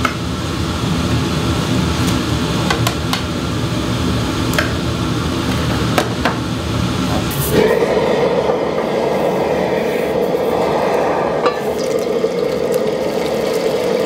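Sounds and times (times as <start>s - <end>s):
gas range and ventilation hum: 0.0s - 14.0s.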